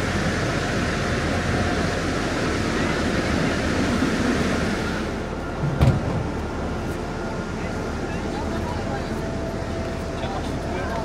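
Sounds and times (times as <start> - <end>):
distant traffic: 0.0 - 11.0
street ambience: 0.0 - 11.0
wind: 0.0 - 11.0.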